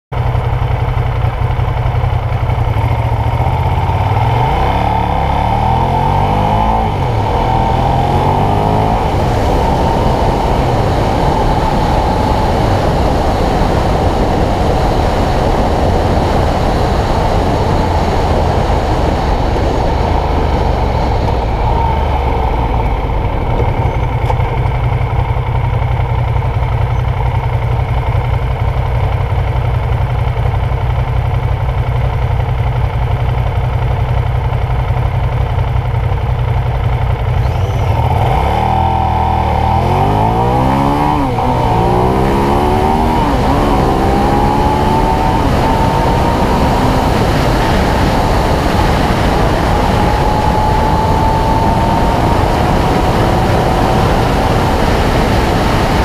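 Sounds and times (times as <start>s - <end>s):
motorcycle engine revving: 0.2s - 56.0s.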